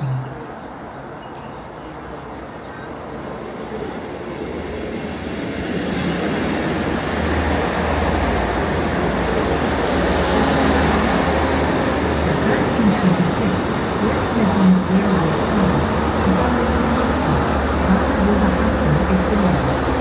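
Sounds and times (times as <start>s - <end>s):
diesel train engine drone: 0.0s - 20.0s
rail rumble: 0.0s - 20.0s.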